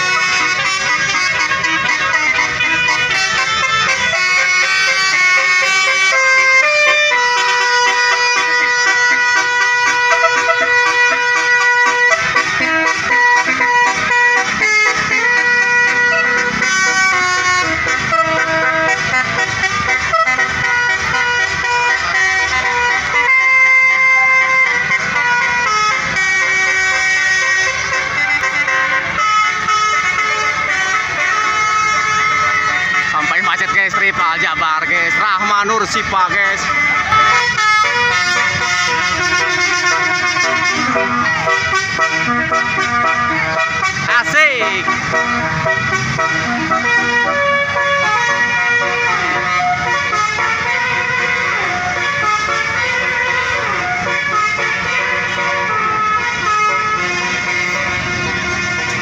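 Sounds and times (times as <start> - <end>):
bus engine noise: 0.0 - 59.0
multi-tone air horns playing tune: 0.0 - 59.0.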